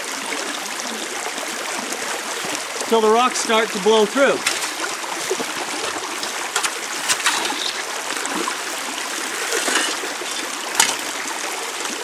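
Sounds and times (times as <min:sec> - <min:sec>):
water rushing down metal sluice: 0:00.0 - 0:12.0.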